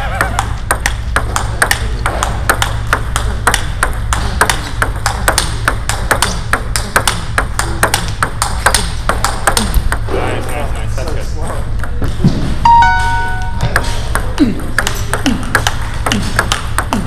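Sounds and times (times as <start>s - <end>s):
table tennis ball clicking: 0.2s - 10.1s, 12.9s - 17.0s.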